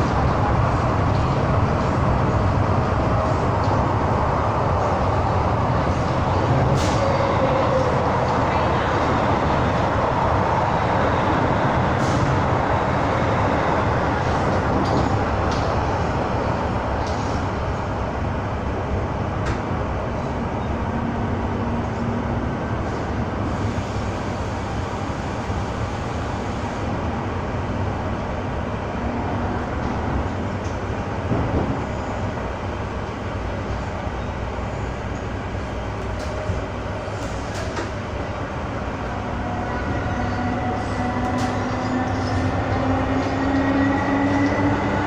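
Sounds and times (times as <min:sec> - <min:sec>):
train rumble and rail noise: 0:00.0 - 0:45.0.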